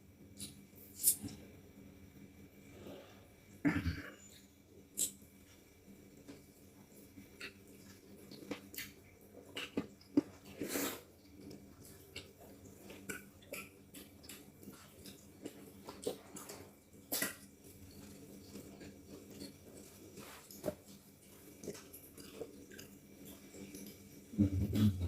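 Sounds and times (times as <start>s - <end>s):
people chewing and lip smacking: 0.4s - 1.4s, 4.2s - 5.2s, 6.1s - 25.0s.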